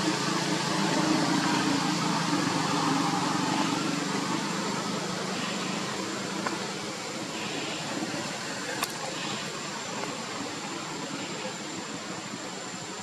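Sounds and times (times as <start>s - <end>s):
wide hiss: 0.0s - 13.0s.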